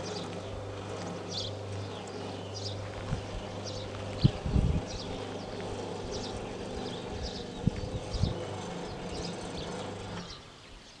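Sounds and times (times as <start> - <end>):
barrier drive humming: 0.0 - 11.0
birds chirping: 0.0 - 11.0.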